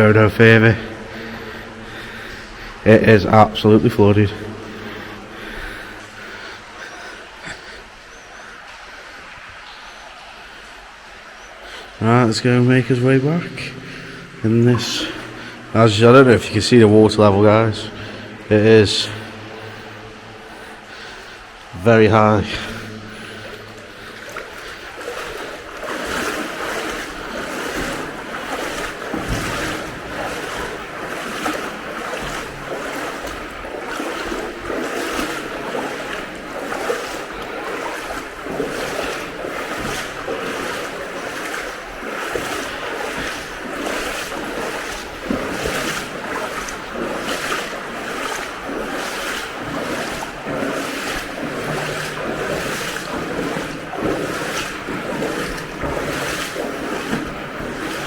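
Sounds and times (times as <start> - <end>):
boots sloshing through deep water: 0.0 - 58.0.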